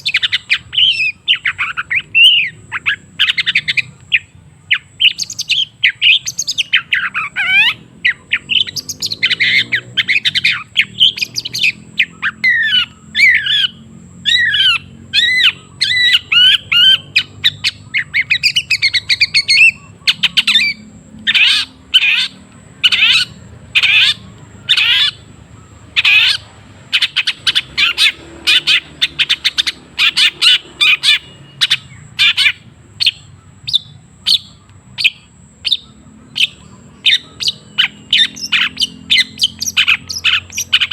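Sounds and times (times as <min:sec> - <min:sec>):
bird singing harsh chirps: 0:00.0 - 0:40.9.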